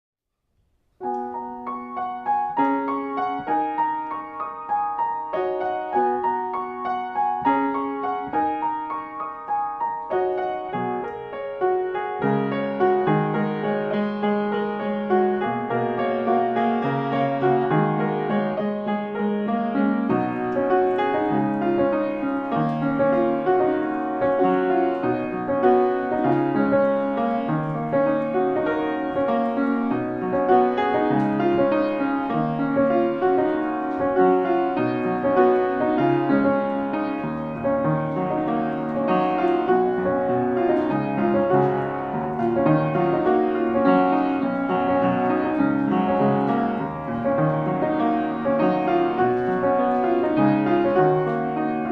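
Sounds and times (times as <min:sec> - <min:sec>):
piano music: 0:01.0 - 0:51.9.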